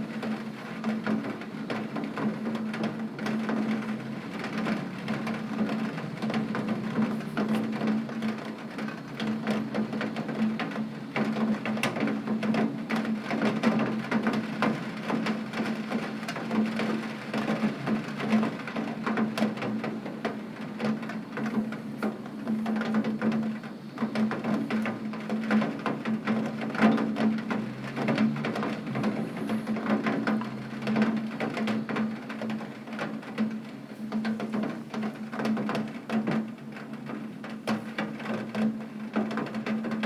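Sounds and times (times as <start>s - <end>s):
heavy rain on window glass: 0.0s - 40.0s.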